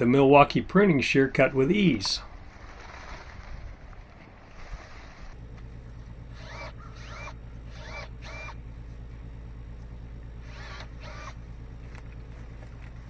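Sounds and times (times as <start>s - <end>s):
steady low hum: 0.0s - 13.0s
pruning shears motor whirring: 0.7s - 9.2s, 10.0s - 13.0s.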